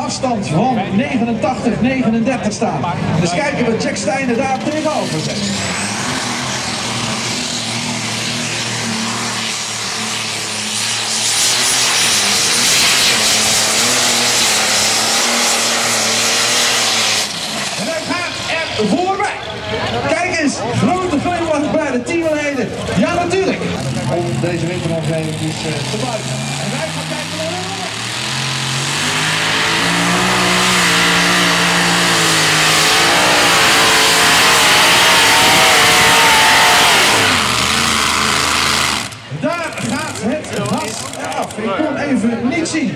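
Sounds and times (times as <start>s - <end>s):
tractor engine at full power: 0.0s - 42.9s.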